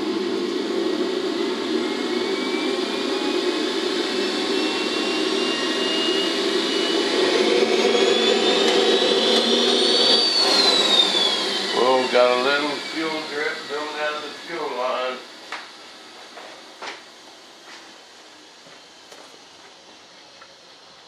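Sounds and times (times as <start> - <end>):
model jet turbine whine: 0.0 - 21.0.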